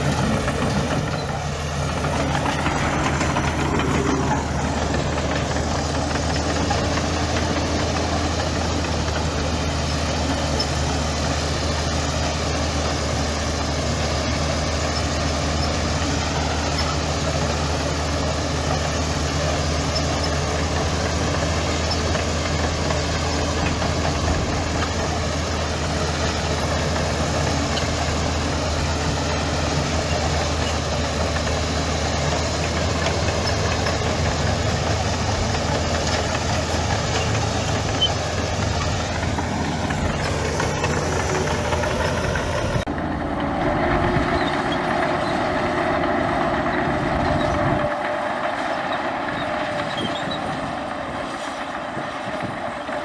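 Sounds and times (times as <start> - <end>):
diesel engine humming: 0.0 - 53.0.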